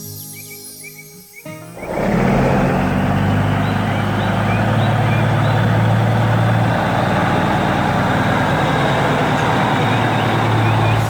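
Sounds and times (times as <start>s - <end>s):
faint bird chirps: 0.0s - 2.0s, 2.9s - 11.0s
harvester engine humming: 1.7s - 11.0s.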